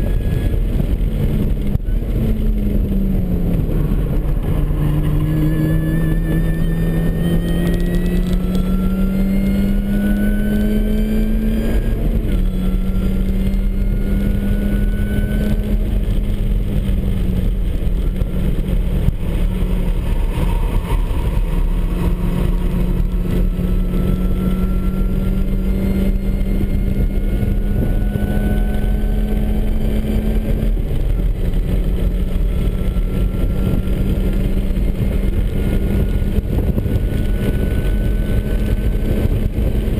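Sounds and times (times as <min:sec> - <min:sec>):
supercharger whine: 0:00.0 - 0:39.9
car engine revving hard: 0:01.4 - 0:39.9.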